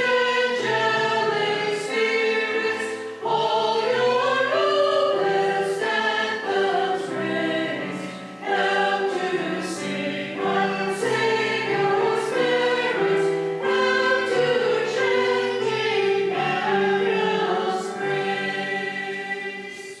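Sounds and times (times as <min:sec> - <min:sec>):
church choir singing: 0:00.0 - 0:20.0.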